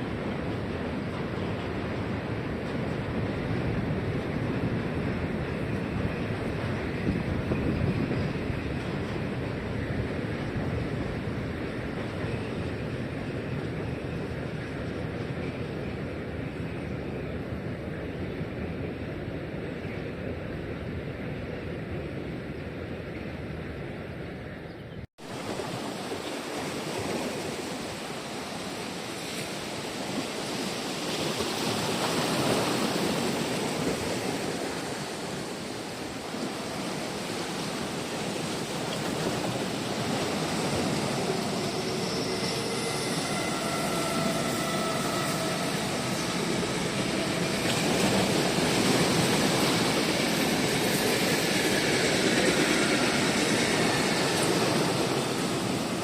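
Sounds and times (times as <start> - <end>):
train rushing along: 0.0 - 24.7, 25.3 - 56.0.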